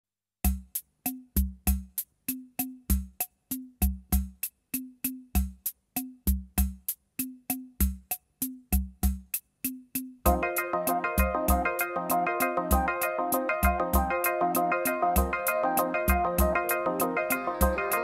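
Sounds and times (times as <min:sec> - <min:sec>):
drum machine beat with bass: 0:00.4 - 0:18.0.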